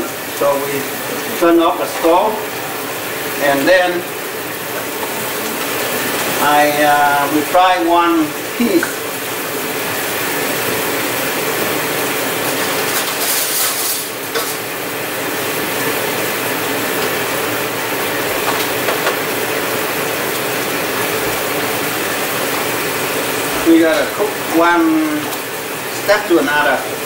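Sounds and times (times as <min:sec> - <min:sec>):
crab legs sizzling in butter: 0:00.0 - 0:27.0.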